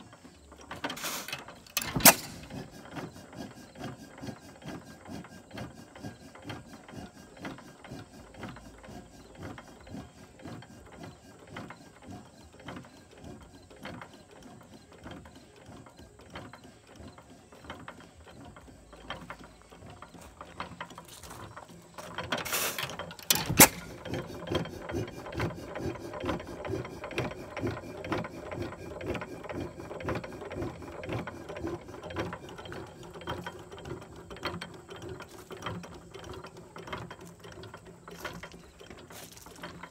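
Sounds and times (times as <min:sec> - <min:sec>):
engine clattering and ticking: 0:00.0 - 0:39.9.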